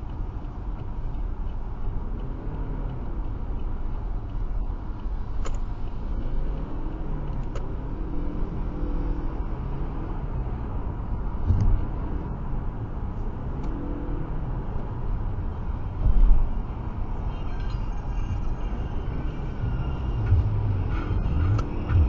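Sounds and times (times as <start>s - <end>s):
car driving at speed: 0.0s - 22.0s.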